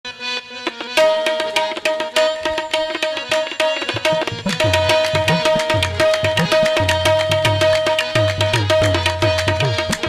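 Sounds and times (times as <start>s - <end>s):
harmonium melody: 0.0s - 10.0s
fast tabla drumming: 0.8s - 10.0s.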